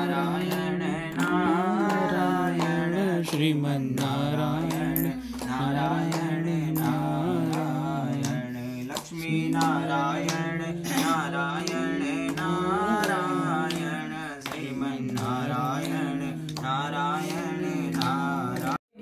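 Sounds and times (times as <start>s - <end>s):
man chanting prayers: 0.0s - 18.8s.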